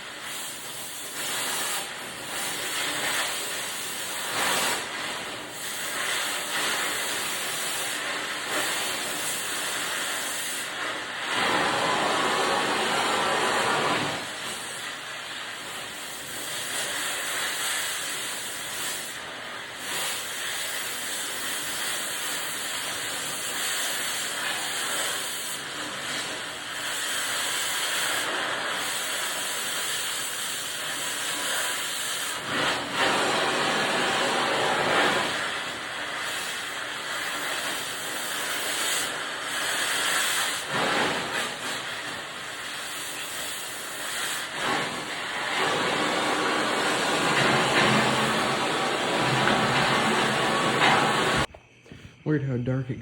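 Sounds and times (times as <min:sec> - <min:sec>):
cutting torch hissing: 0:00.0 - 0:51.6.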